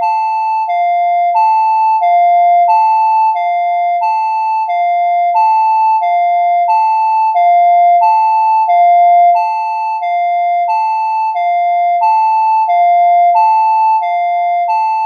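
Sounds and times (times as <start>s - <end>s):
two-tone emergency alert alarm: 0.0s - 15.0s.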